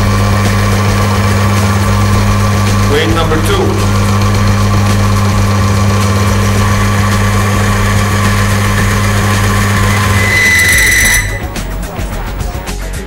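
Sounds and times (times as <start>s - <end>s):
metal screeching: 0.0s - 12.6s
motor hum with high whine: 0.0s - 12.7s.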